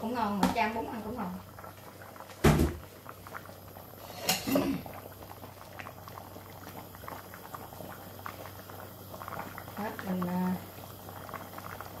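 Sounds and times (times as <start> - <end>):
stew bubbling in a pot: 0.0 - 12.0.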